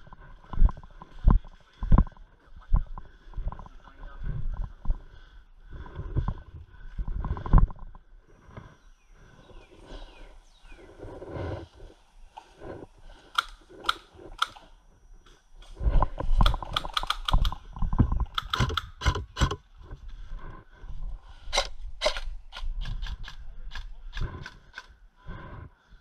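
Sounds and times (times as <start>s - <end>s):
rumbling movement and gear noise: 0.0s - 26.0s.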